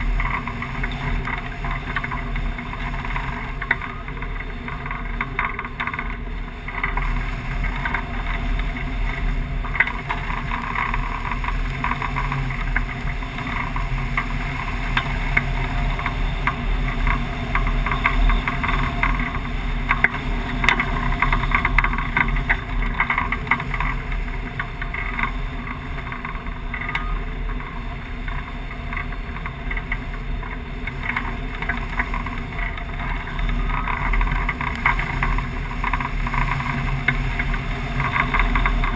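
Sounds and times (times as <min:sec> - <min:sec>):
crackling wind buffets: 0:00.0 - 0:38.9
wind noise with low rumble: 0:00.0 - 0:38.9.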